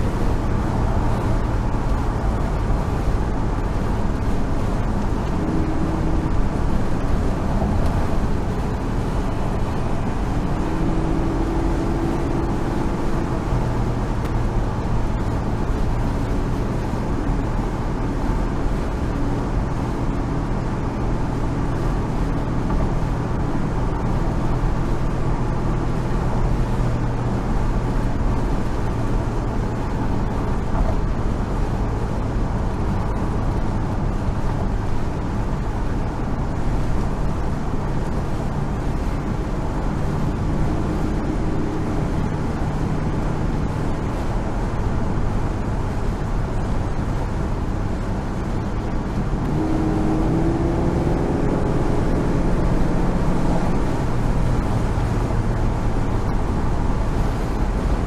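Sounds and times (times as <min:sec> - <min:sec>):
car engine cruising: 0:00.0 - 0:58.0
road and wind noise: 0:00.0 - 0:58.0.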